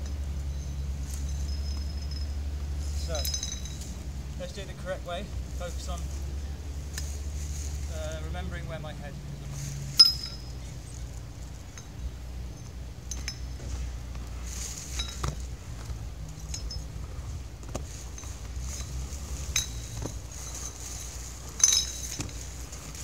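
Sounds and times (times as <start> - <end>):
light metallic clinks and clanks: 0.0 - 8.7, 9.5 - 23.0
steady low rumble: 0.0 - 23.0.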